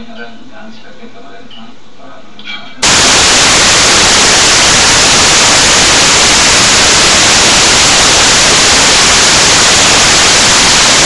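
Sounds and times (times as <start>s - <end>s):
loud steady static hiss: 0.0s - 11.0s.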